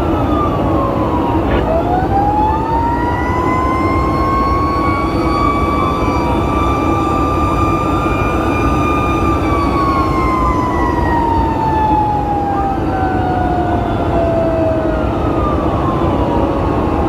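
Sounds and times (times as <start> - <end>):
fire engine siren: 0.0 - 17.0
truck engine and road rumble: 0.0 - 17.0.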